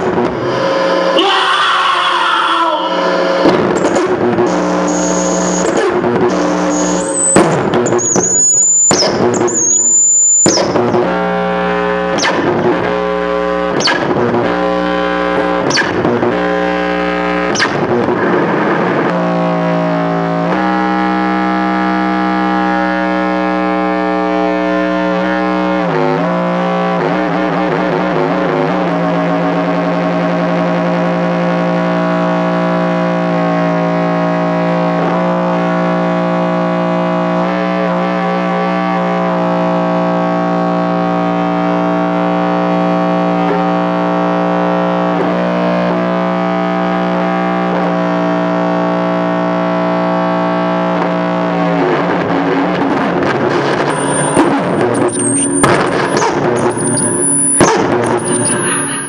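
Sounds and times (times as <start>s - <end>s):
loud distorted drone: 0.0s - 59.0s.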